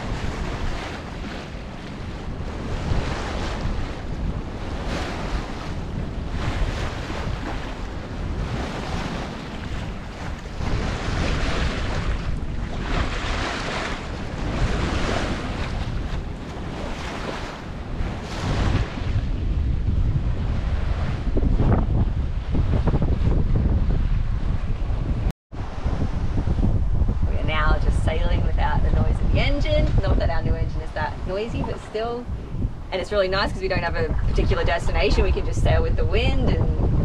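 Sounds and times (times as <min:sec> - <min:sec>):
water rushing along boat hull: 0:00.0 - 0:37.0
wind buffeting microphone: 0:00.0 - 0:37.0.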